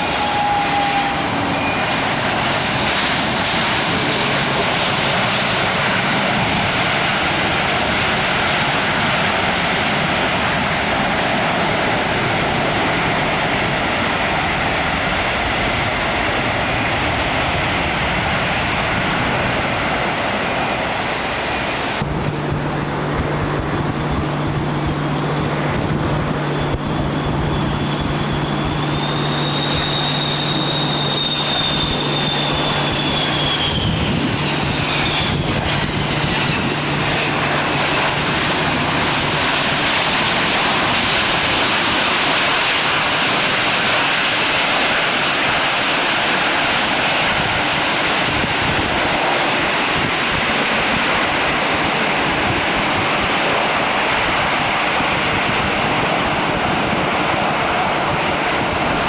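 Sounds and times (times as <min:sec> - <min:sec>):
airliner engines running: 0:00.0 - 0:59.0
high engine whine: 0:00.0 - 0:59.0.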